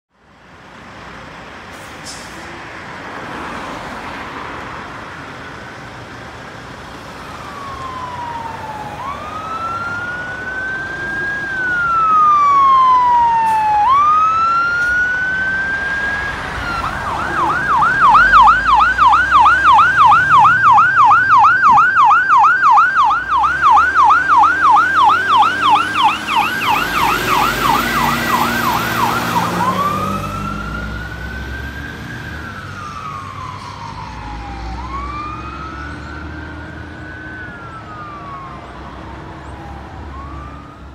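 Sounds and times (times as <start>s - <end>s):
fire truck siren wailing and yelping: 5.8s - 40.9s.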